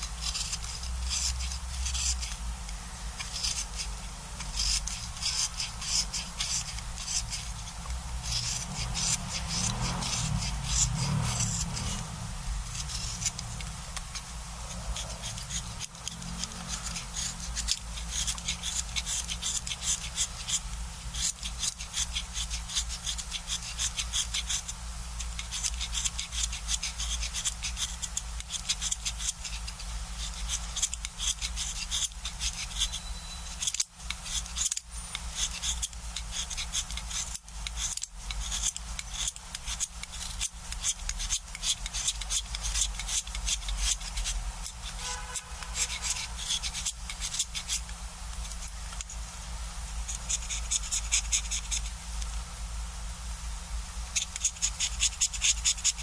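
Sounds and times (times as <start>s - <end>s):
knife blade shaving pencil: 0.0s - 49.2s, 50.1s - 52.0s, 54.1s - 56.0s.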